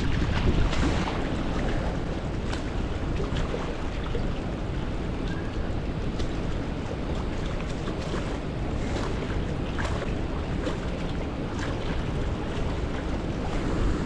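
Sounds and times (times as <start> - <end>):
strong wind on microphone: 0.0 - 14.0
waves lapping against rocks: 0.0 - 14.0.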